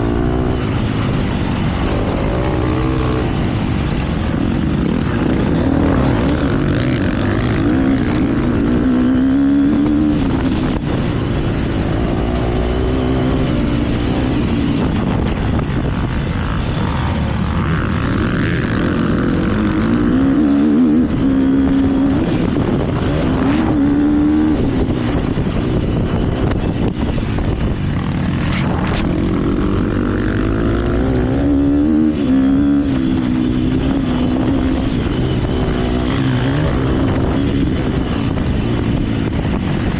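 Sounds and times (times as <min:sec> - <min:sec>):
motocross bike engine revving: 0:00.0 - 0:26.7, 0:27.8 - 0:39.9
wind rush on microphone: 0:00.0 - 0:39.9.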